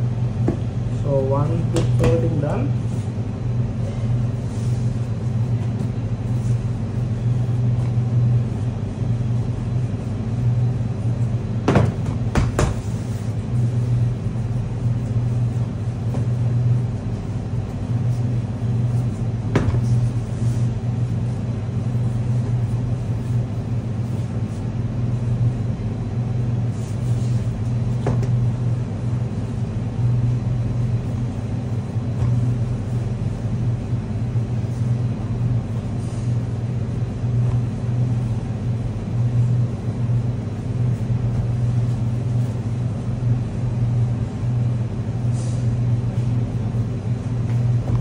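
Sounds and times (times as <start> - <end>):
kitchen machine hum: 0.0 - 48.0.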